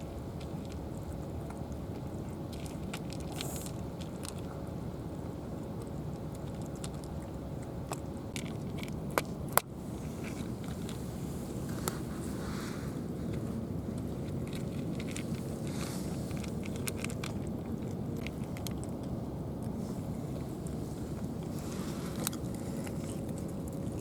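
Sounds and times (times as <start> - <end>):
cat chewing and crunching food: 0.0 - 24.0
low rumble: 0.0 - 24.0.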